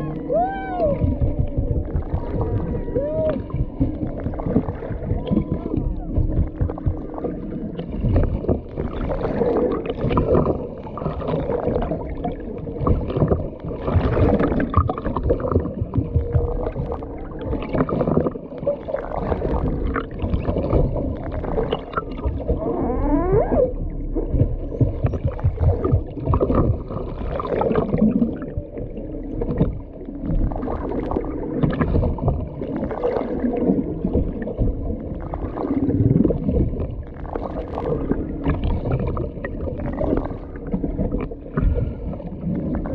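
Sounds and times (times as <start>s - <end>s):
steady low hum: 0.0s - 42.9s
whale song underwater: 0.0s - 42.9s.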